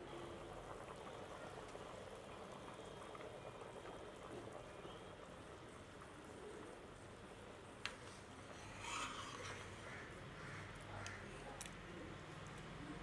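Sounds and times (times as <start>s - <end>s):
liquid boiling in a pot: 0.0s - 13.0s.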